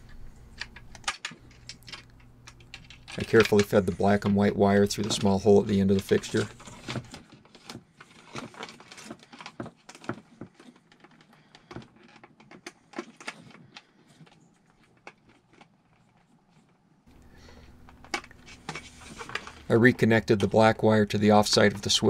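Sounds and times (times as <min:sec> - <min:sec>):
small clicks and rustles: 0:00.0 - 0:19.7
faint steady hum: 0:00.0 - 0:22.0.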